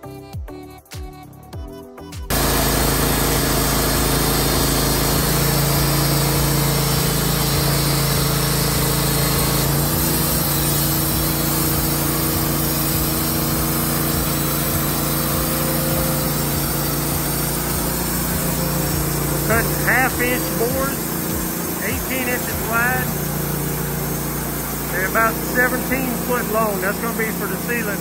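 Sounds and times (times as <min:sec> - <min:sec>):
band blade sawing log: 0:02.3 - 0:28.0
sawmill engine drone: 0:02.3 - 0:28.0.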